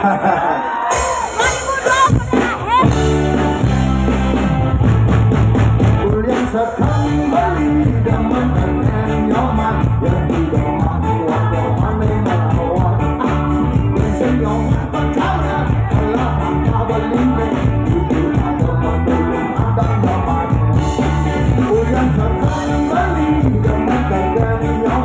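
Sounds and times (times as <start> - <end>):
drums: 0.0 - 25.0
keyboard: 0.0 - 25.0
electric guitar: 0.6 - 25.0.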